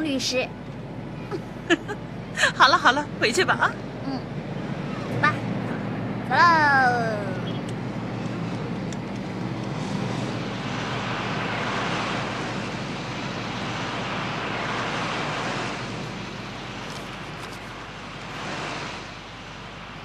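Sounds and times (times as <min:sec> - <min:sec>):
vehicle passing by: 0:03.2 - 0:20.0.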